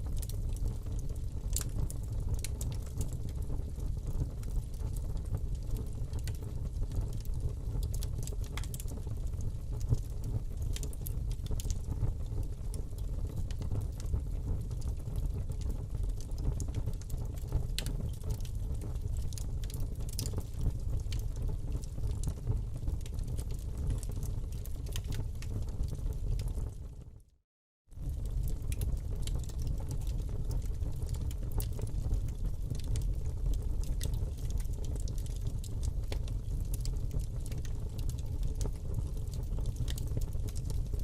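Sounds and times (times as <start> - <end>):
wood fire rumbling: 0.0 - 27.0, 27.9 - 41.0
logs crackling and popping: 0.1 - 26.8, 28.0 - 41.0.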